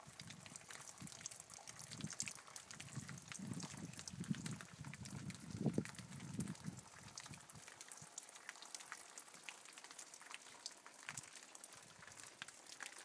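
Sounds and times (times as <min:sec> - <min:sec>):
rain dripping and trickling: 0:00.0 - 0:13.0.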